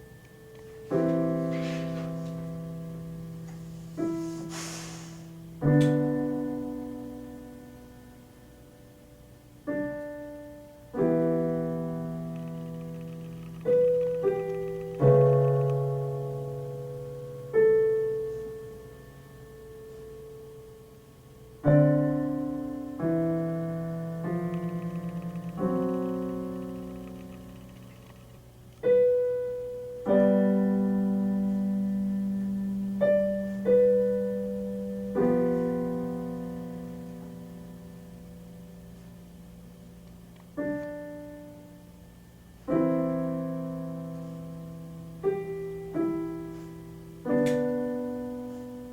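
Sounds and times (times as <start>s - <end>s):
slow solo piano chords: 0.0s - 48.9s.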